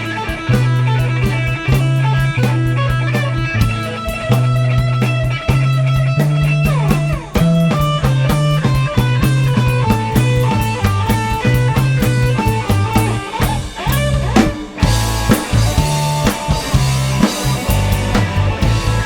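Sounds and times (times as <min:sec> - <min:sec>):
instrumental rock music: 0:00.0 - 0:19.0.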